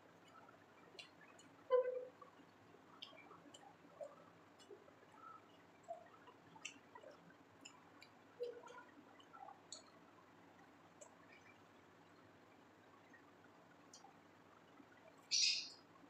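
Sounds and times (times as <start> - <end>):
soft chewing: 0.0 - 15.3.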